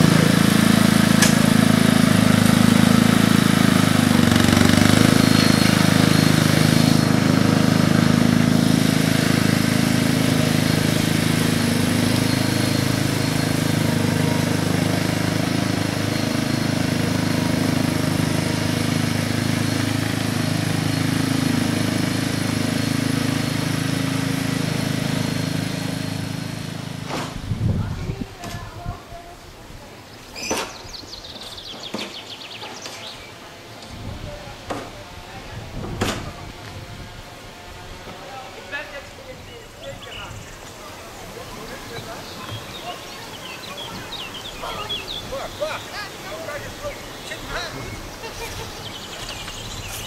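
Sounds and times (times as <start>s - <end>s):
small engine running: 0.0s - 28.4s, 32.2s - 50.0s.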